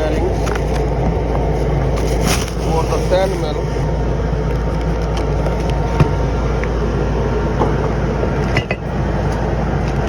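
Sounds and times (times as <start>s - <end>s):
machinery rumble with low hum: 0.0s - 10.0s.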